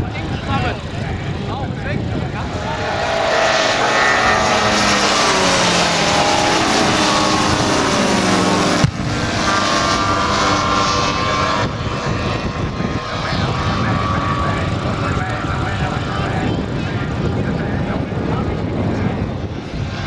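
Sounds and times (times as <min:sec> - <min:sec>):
model airplane engine flying past: 0:00.2 - 0:20.0.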